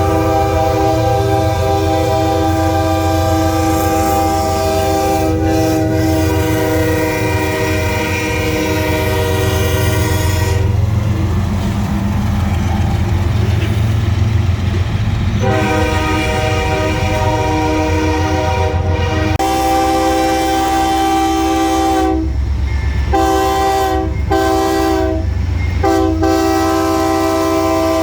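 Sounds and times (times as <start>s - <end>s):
locomotive air horn blast: 0.0s - 10.9s, 15.4s - 22.4s, 23.1s - 28.0s
low rumble of train: 0.0s - 28.0s.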